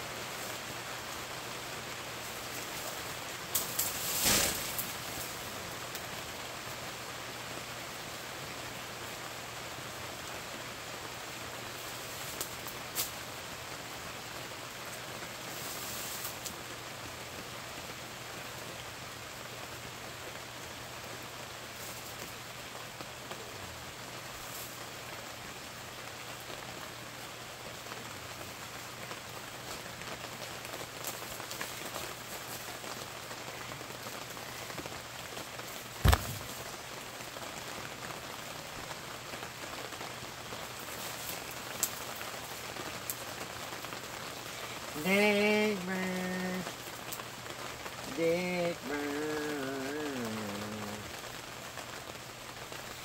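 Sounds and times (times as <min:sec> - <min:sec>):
rain on fabric canopy: 0:00.0 - 0:53.0.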